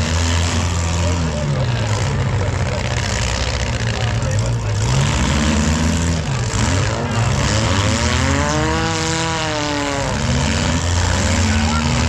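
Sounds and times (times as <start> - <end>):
car engine revving: 0.0 - 12.0
car engines running: 0.0 - 12.0.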